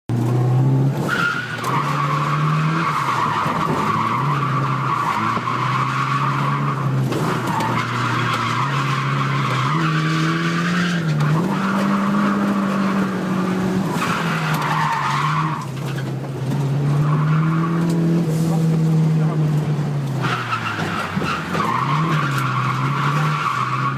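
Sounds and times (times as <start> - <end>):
car engine at high revs: 0.1 - 23.9.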